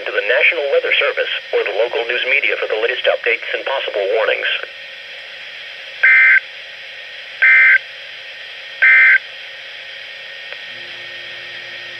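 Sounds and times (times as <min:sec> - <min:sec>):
buzzy data bursts from radio speaker: 0:00.0 - 0:10.4
radio hiss: 0:00.0 - 0:10.4.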